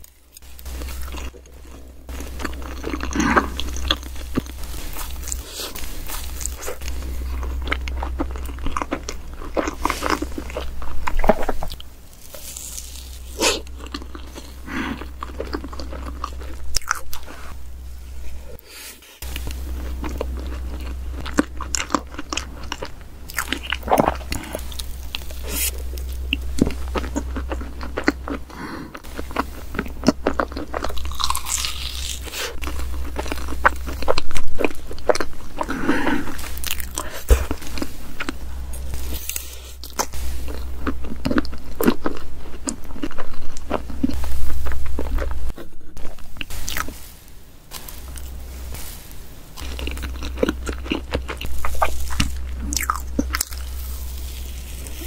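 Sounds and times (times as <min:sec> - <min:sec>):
chewing soft cake: 0:00.0 - 0:17.6, 0:19.2 - 0:47.0, 0:49.6 - 0:55.0
steady low hum: 0:00.0 - 0:55.0.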